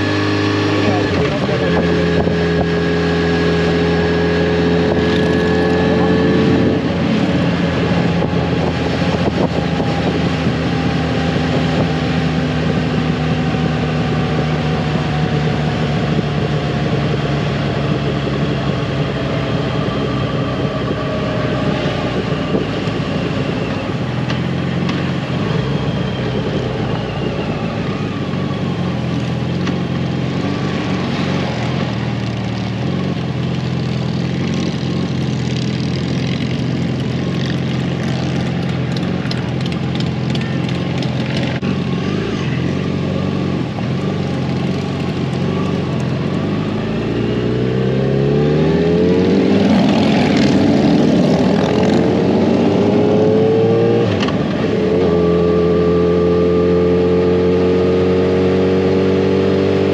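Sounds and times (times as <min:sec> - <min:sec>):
motorcycle engine cruising: 0:00.0 - 0:59.9
wind rushing over microphone: 0:00.0 - 0:59.9.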